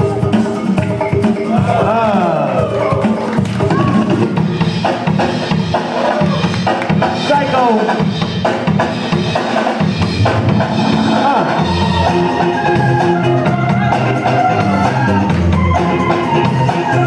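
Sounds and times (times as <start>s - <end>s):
loud breakbeat music: 0.0s - 17.0s.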